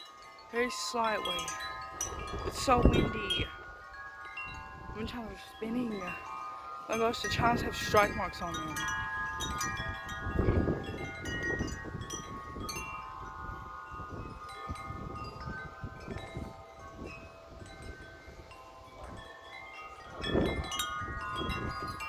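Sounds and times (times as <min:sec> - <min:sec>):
wind buffeting microphone: 0:00.0 - 0:22.0
wind chimes clanging: 0:00.0 - 0:22.0.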